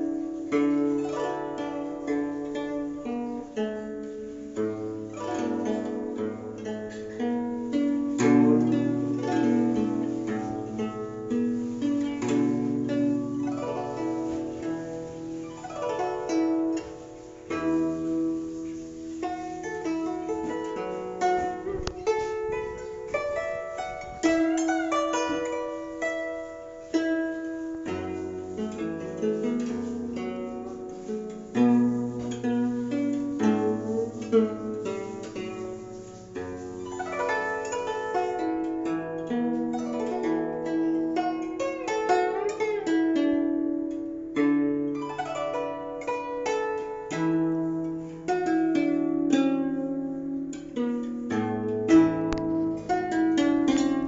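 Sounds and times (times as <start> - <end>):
plucked zither notes: 0.0 - 54.0.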